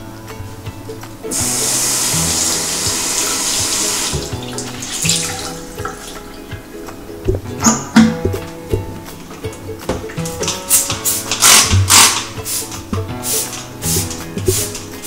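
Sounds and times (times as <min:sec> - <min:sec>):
soft background music: 0:00.0 - 0:15.0
tap running into basin: 0:01.3 - 0:06.7, 0:07.3 - 0:15.0.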